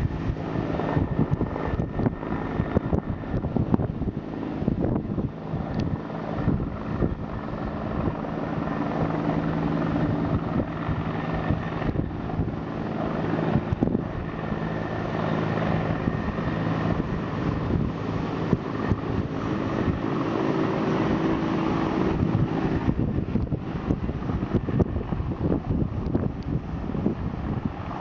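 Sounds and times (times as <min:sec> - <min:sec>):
engine drone: 0:00.0 - 0:28.0
wind buffeting microphone: 0:00.0 - 0:28.0.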